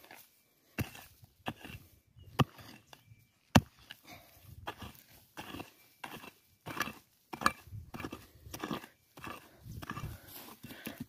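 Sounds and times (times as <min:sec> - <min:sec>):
digging tool striking stony ground: 0:00.0 - 0:04.0, 0:04.6 - 0:11.0
scraping scoops of soil: 0:00.0 - 0:11.0.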